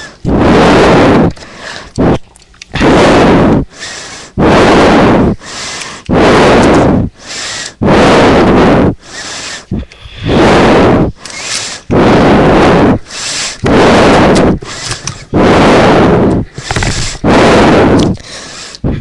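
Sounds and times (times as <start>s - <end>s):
distorted breath blasts on microphone: 0.0s - 19.0s.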